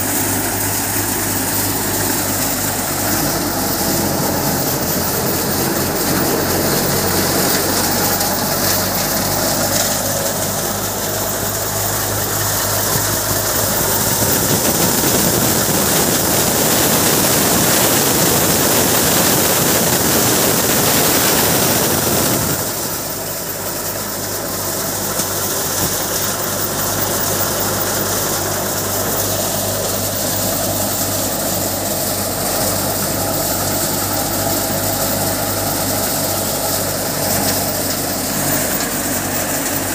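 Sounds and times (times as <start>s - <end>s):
low engine hum: 0.0s - 39.9s
thresher drum and blower rushing: 0.0s - 39.9s.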